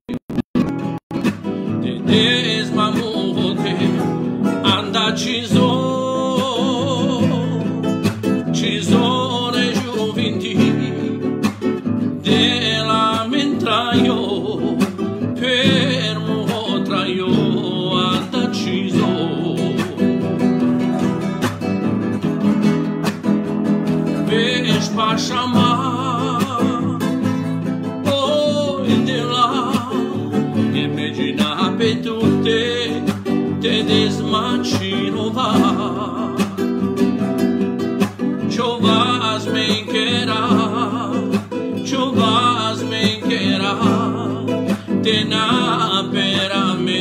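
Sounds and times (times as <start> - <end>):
classical guitar strumming: 0.1 - 47.0
man singing with vibrato: 1.5 - 21.4, 24.0 - 47.0.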